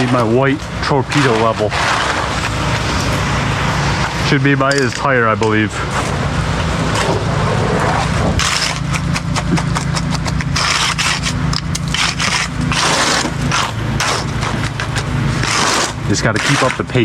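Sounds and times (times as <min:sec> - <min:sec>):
tools scraping wet concrete: 0:00.0 - 0:06.2, 0:06.8 - 0:17.0
engine running: 0:00.0 - 0:17.0.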